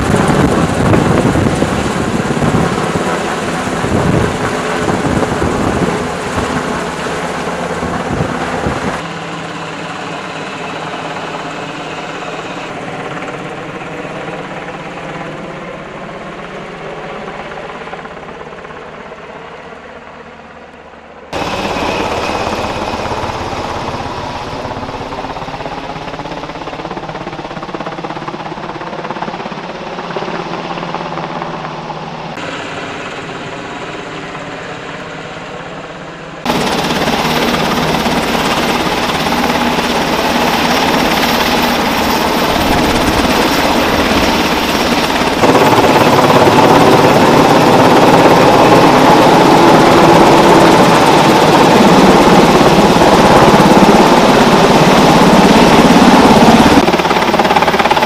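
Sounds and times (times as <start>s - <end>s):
helicopter rotor and engines: 0.0s - 58.0s.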